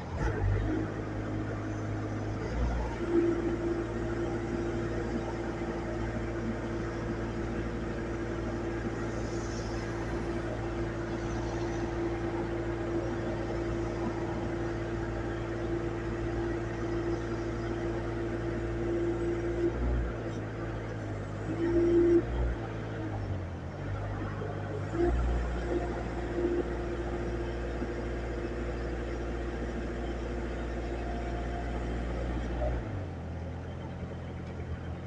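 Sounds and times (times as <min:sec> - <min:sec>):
mechanical hum with whine: 0:00.0 - 0:34.8.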